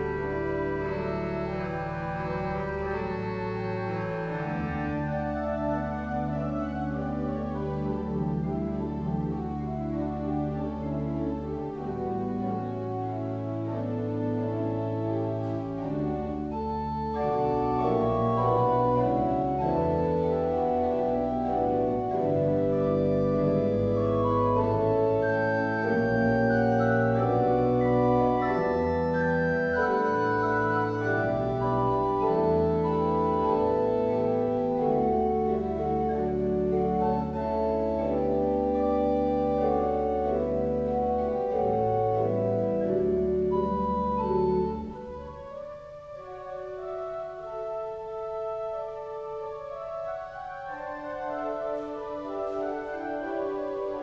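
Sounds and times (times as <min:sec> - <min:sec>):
church organ playing: 0:00.0 - 0:54.0.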